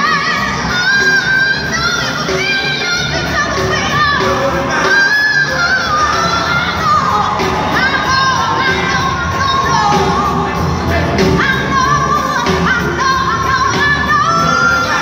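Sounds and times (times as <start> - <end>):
blues-rock band playing: 0.0 - 15.0
woman singing: 0.0 - 15.0.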